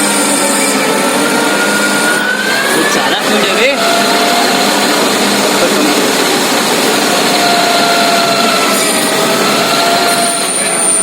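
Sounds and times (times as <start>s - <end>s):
lathe cutting metal: 0.0s - 11.0s.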